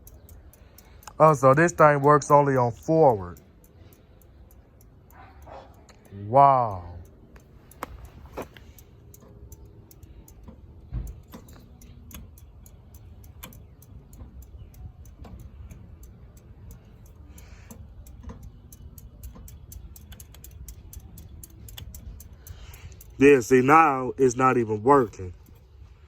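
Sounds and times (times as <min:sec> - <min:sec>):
faint sharp ticks: 0:00.0 - 0:23.6.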